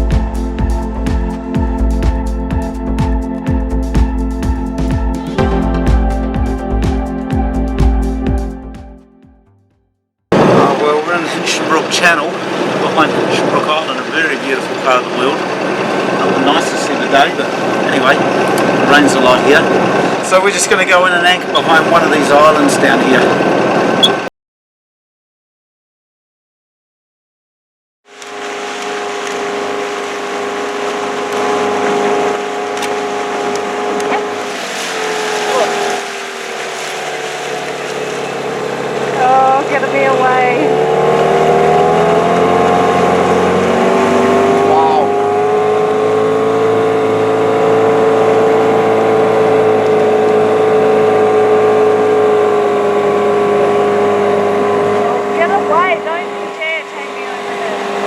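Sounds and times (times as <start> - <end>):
water noise: 0.0 - 9.3, 10.3 - 24.3, 28.1 - 58.0
boat engine droning: 0.0 - 9.7, 10.3 - 24.3, 28.1 - 58.0.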